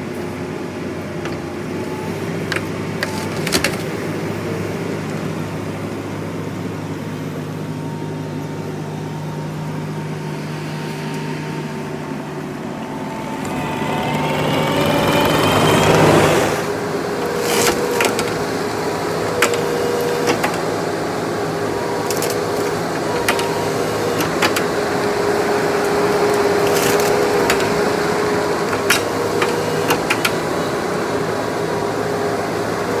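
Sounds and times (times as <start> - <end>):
heavy machine engine running: 0.0 - 33.0.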